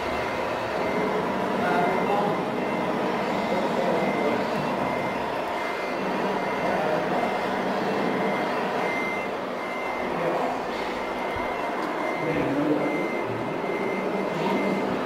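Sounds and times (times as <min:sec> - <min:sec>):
electronic reversing beeper: 0:00.0 - 0:15.0
hall noise: 0:00.0 - 0:15.0.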